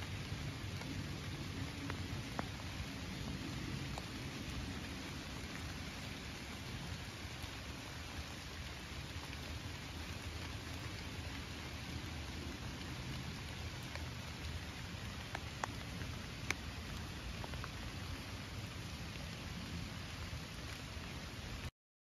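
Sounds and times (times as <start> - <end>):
rain falling on leaves: 0.0 - 21.7.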